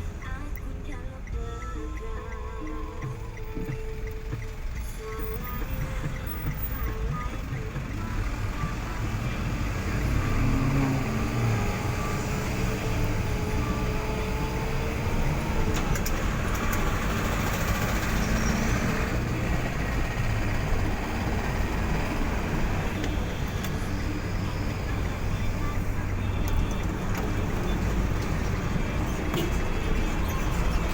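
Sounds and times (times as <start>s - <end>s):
vehicle engine and road rumble: 0.0s - 30.9s.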